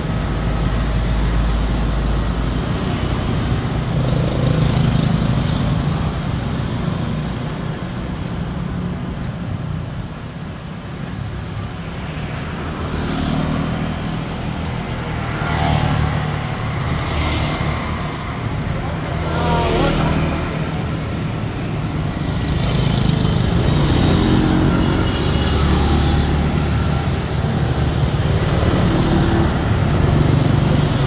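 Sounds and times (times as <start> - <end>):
scooters and motorbikes passing: 0.0 - 9.0, 11.1 - 31.0
low traffic rumble: 0.0 - 31.0.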